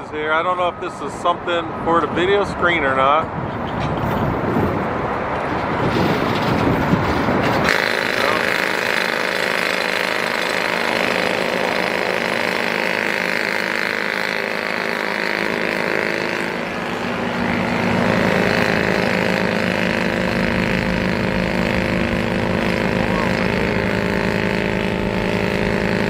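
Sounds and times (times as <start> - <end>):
deep engine rumble: 0.0 - 26.0
engine drone: 0.0 - 26.0.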